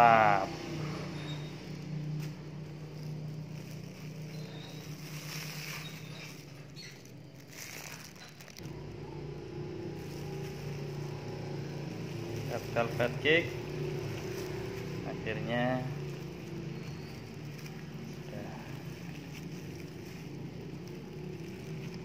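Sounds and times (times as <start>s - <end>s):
faint handling rustles: 0.8s - 8.9s, 9.6s - 22.0s.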